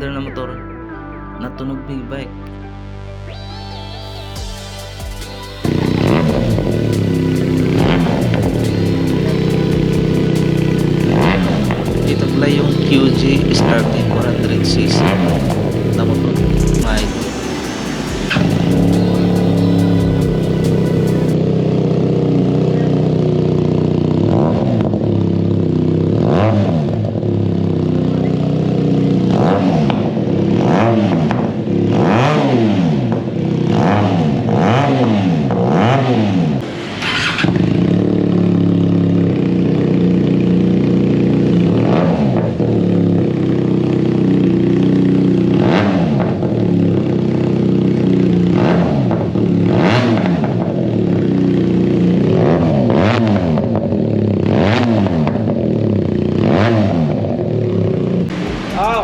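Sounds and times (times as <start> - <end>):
motorcycle engine revving and idling: 4.4 - 59.0.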